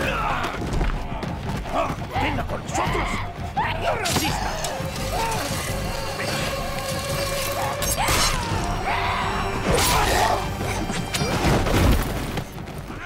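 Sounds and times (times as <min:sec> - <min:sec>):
film score music: 0:00.0 - 0:13.0.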